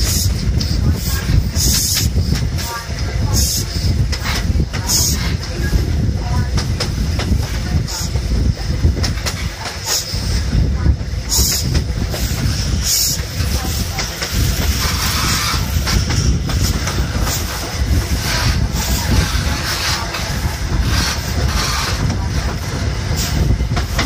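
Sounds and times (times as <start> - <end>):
train wheels rumbling on rails: 0.0 - 24.0
wind buffeting microphone: 0.0 - 24.0.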